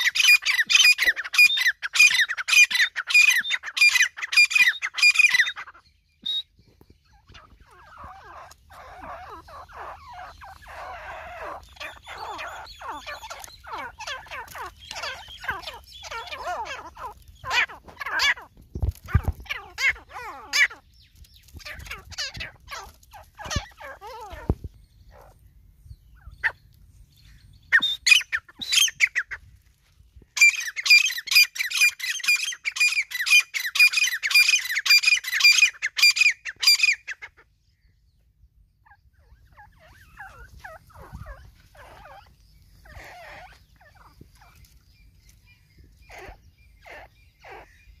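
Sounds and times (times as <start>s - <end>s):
francolins calling: 0.0s - 48.0s.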